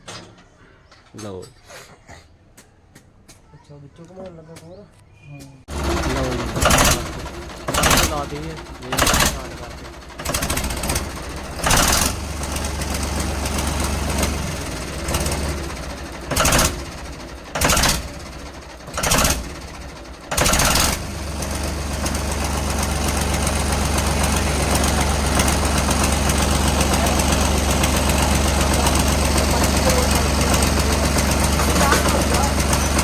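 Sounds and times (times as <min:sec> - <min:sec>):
turbocharged engine revving: 0:05.7 - 0:33.0.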